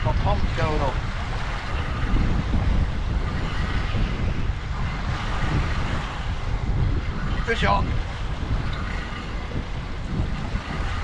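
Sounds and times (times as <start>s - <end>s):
water slopping around a boat: 0.0s - 11.0s
wind rumbling on microphone: 0.0s - 11.0s.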